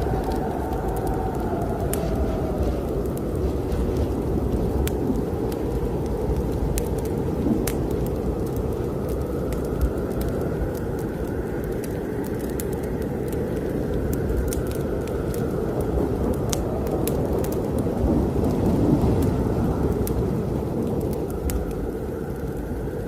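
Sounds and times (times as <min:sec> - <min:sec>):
snowstorm wind blowing: 0:00.0 - 0:23.0
wood fire crackling: 0:00.0 - 0:23.0.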